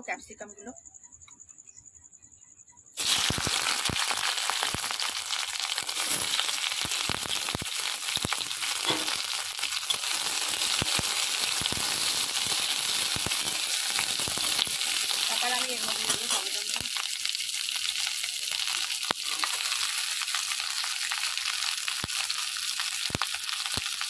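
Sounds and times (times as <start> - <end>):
peppers sizzling in hot oil: 3.0 - 24.0.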